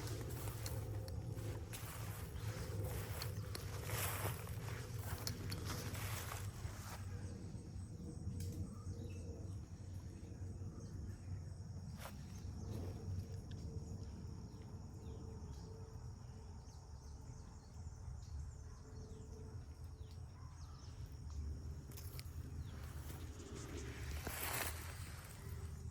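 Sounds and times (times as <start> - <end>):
insects chirring: 0.0 - 25.9
low outdoor rumble: 0.0 - 25.9.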